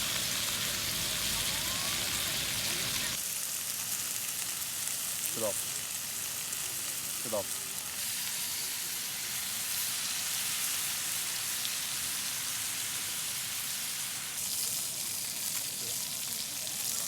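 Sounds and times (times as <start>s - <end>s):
food sizzling in a hot pan: 0.0s - 17.0s.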